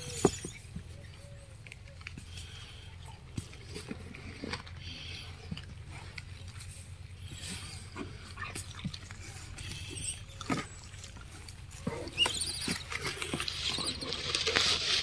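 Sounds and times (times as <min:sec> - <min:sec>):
monkeys chewing apples: 0:00.0 - 0:15.0.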